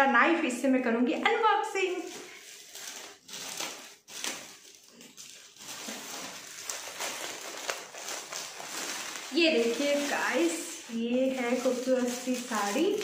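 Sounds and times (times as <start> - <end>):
plastic packaging crinkling: 1.7 - 13.0
knife cutting plastic: 2.1 - 13.0.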